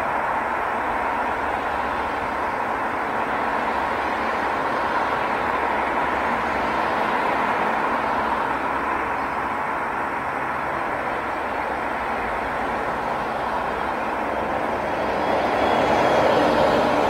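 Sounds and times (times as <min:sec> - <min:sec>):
faint steady tone: 0:00.0 - 0:17.0
road traffic rushing: 0:00.0 - 0:17.0.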